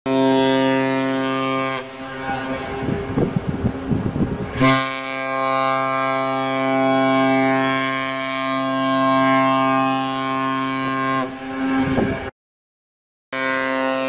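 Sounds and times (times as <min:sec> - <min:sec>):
ship horn long low blast: 0:00.1 - 0:12.3, 0:13.3 - 0:14.0.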